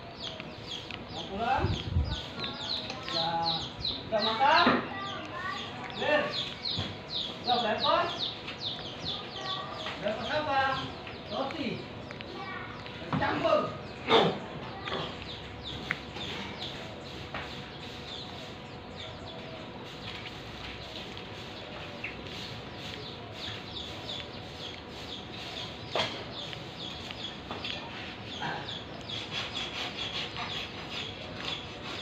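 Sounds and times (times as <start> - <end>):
birds calling and chirping: 0.0 - 32.0.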